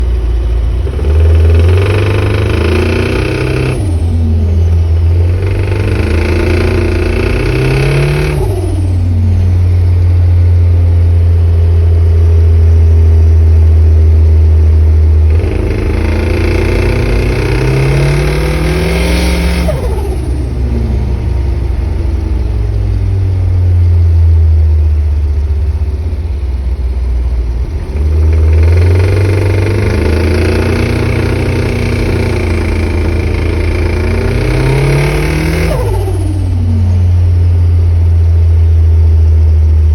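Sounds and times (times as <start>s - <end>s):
engine revving and idling: 0.0s - 39.9s.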